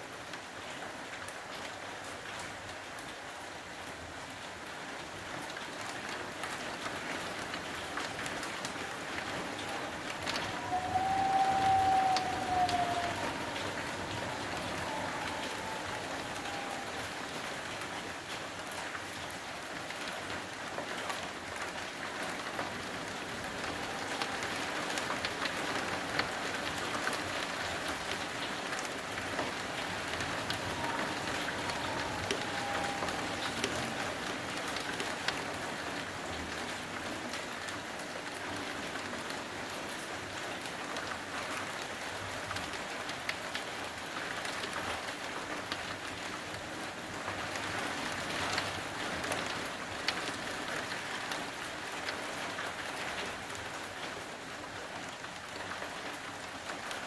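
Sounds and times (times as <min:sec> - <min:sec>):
heavy rain falling: 0:00.0 - 0:57.0
raindrops ticking on surfaces: 0:00.0 - 0:57.0.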